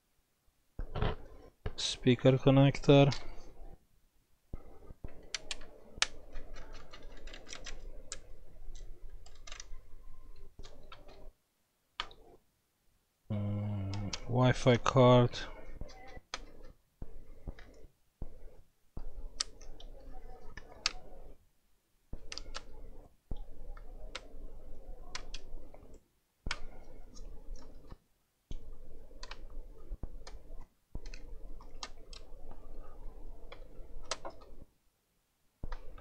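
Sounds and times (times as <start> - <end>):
low background hum: 0.0 - 36.0.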